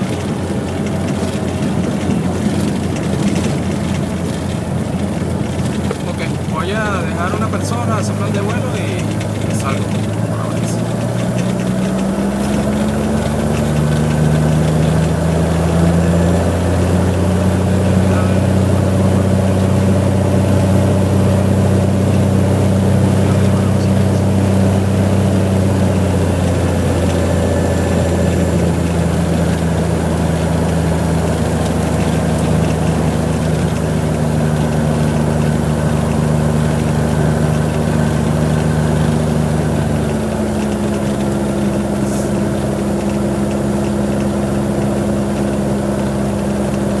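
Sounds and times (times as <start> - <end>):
propeller plane engine running: 0.0 - 47.0.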